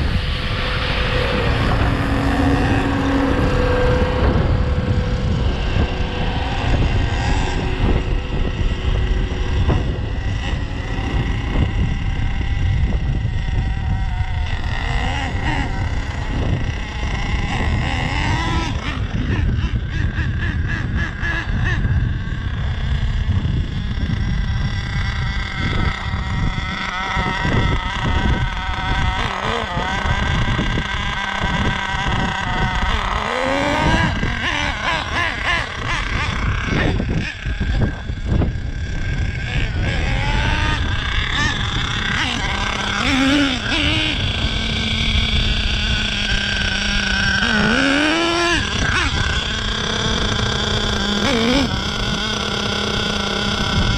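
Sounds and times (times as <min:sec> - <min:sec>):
small nitro engine revving: 0:00.0 - 0:53.9.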